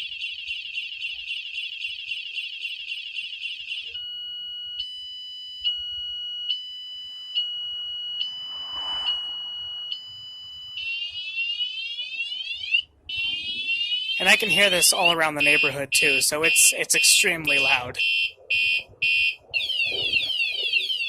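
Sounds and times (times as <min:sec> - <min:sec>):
motorcycle alarm siren: 0:00.0 - 0:21.0.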